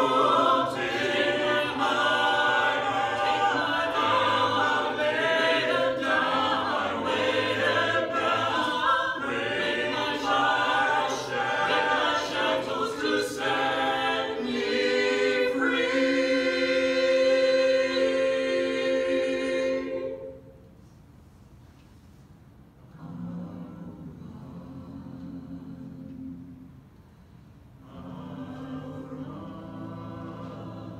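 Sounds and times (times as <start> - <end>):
a cappella ensemble singing: 0.0 - 20.9, 22.8 - 30.9.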